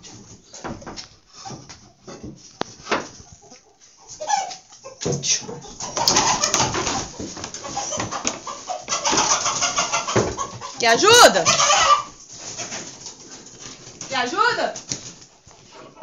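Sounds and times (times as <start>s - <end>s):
chickens calling: 0.0s - 16.0s
chickens commotion: 0.0s - 16.0s.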